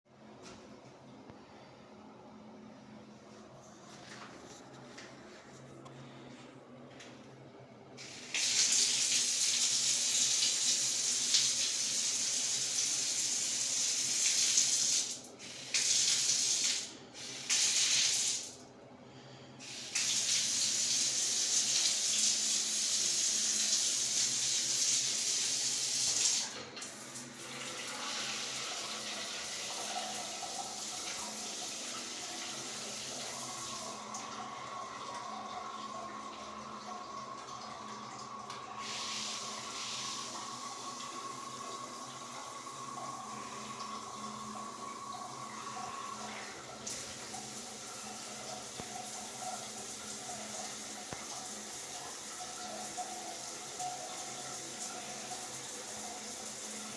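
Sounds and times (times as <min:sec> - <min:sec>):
water running from a tap: 0:08.0 - 0:18.6, 0:19.6 - 0:56.9.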